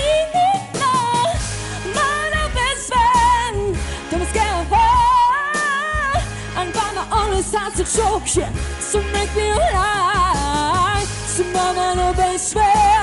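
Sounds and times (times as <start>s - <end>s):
pop-soul backing music: 0.0s - 13.0s
woman singing into microphone: 0.0s - 13.0s.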